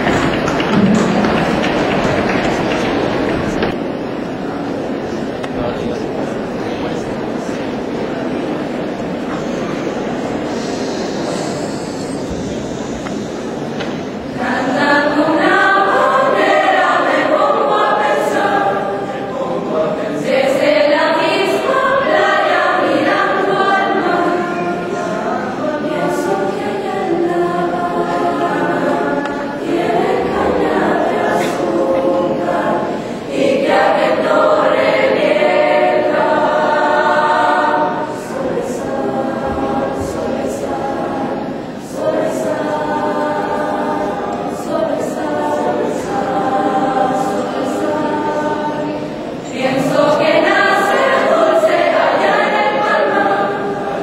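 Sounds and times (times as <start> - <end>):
choir singing: 0.0 - 5.4, 6.0 - 54.0.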